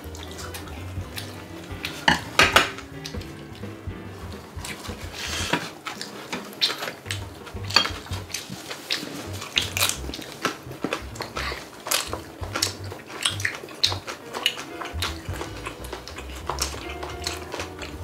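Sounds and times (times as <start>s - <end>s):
chopsticks clacking on dishes: 0.2s - 3.7s, 4.6s - 18.0s.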